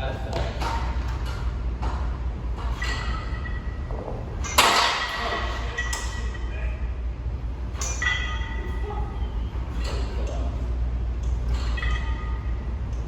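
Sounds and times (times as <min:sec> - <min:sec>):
steady low hum: 0:00.0 - 0:13.0
metal gym weights clanking: 0:00.6 - 0:06.9, 0:07.6 - 0:13.0.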